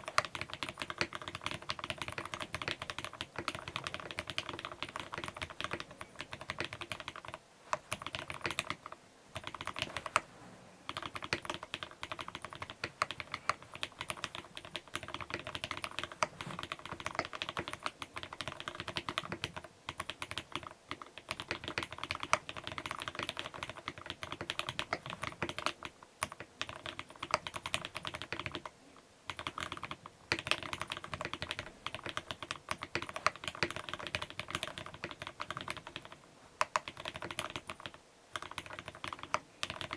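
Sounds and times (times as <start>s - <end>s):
mechanical keyboard typing: 0.0s - 10.2s, 10.9s - 28.7s, 29.3s - 39.9s.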